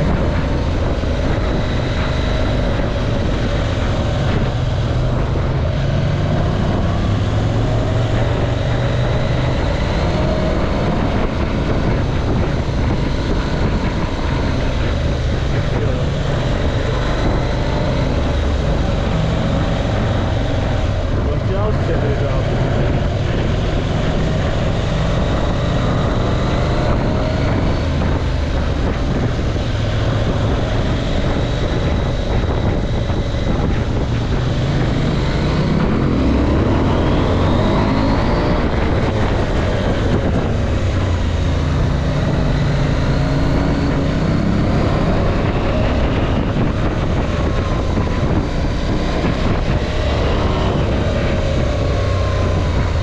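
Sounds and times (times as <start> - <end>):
motorcycle engine running: 0.0 - 53.0
wind noise on microphone: 0.0 - 53.0.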